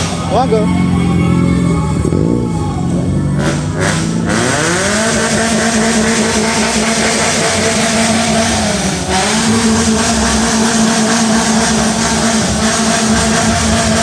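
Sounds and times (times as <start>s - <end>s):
car engine revving high: 0.0s - 14.0s.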